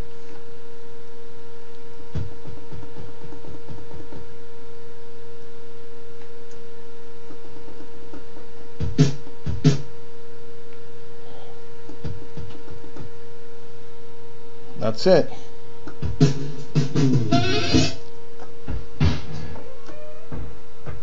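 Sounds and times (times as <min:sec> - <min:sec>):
electrical hum with high whine: 0:00.0 - 0:21.0.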